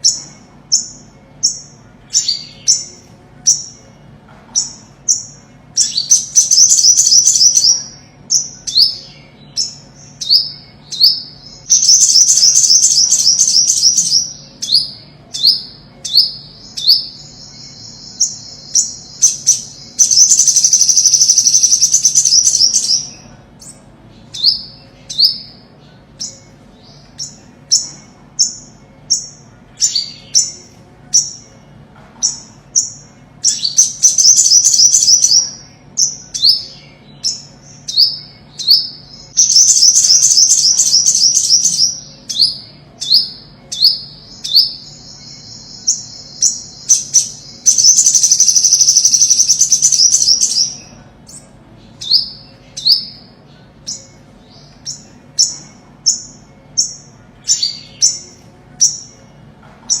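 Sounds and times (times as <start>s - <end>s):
bird chip notes: 0.0s - 60.0s
high trilling birdsong: 0.0s - 60.0s.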